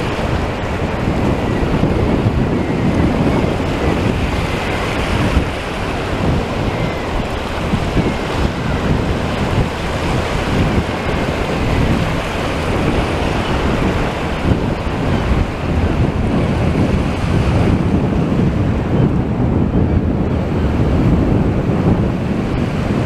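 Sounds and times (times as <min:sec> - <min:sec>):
waves breaking: 0:00.0 - 0:19.5
wind buffeting microphone: 0:00.0 - 0:23.0.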